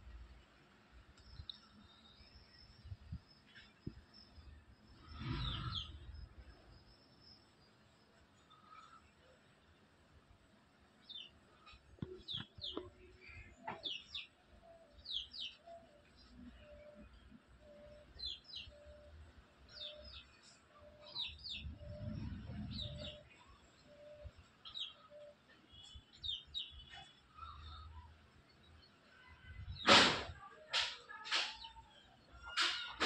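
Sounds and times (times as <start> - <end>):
birds chirping: 1.0 - 33.0.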